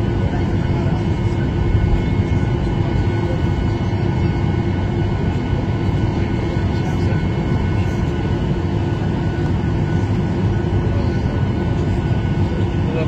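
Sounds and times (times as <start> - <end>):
jet engines idling rumble: 0.0 - 13.0.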